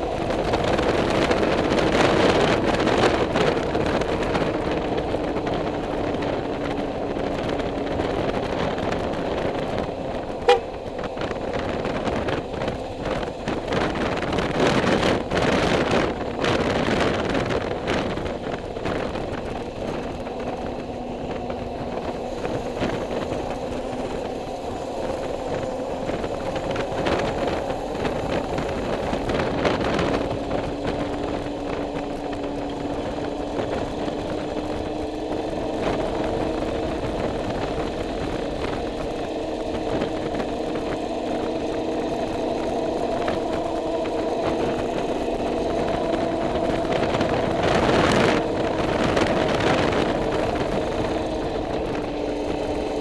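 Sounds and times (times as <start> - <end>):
motorcycle engine cruising: 0.0 - 53.0
road and wind noise: 0.0 - 53.0.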